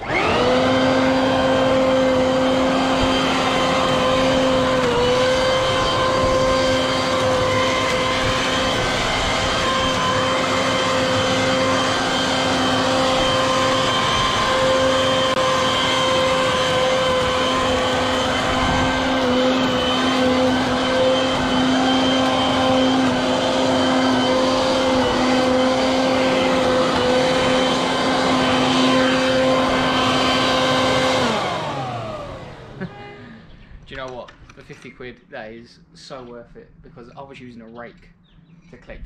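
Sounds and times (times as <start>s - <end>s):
electric blower vac whining: 0.0s - 37.3s.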